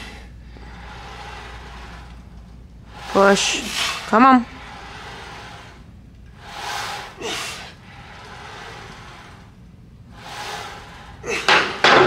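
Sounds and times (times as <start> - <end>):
man breathing hard: 0.0 - 9.5, 10.1 - 11.9.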